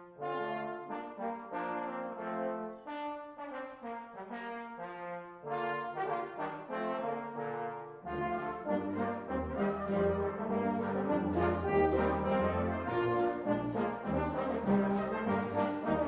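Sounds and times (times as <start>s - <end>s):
brass-led orchestral music: 0.0s - 16.0s.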